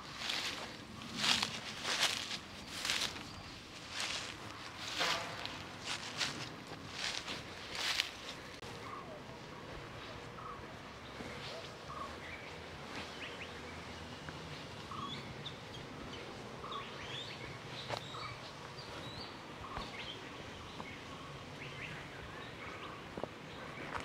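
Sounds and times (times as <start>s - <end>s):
birds chirping and whistling: 0.1s - 8.0s, 10.3s - 24.0s.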